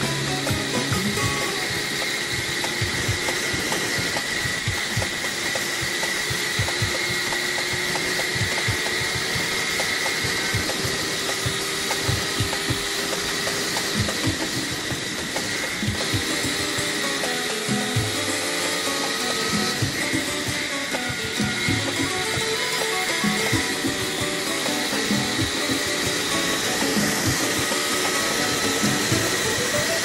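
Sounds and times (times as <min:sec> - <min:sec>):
motorcycle cruising: 0:00.0 - 0:30.0
steady high whine: 0:00.0 - 0:30.0.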